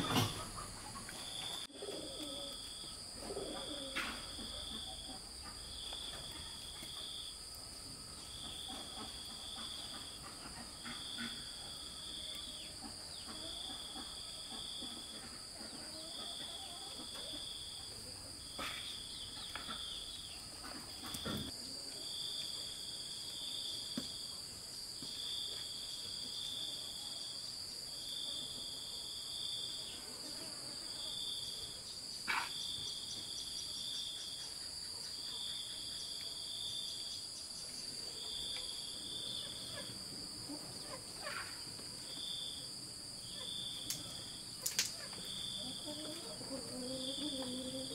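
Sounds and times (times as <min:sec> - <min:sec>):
insect high drone: 0:00.0 - 0:47.9
shrill insect trill: 0:00.0 - 0:47.9.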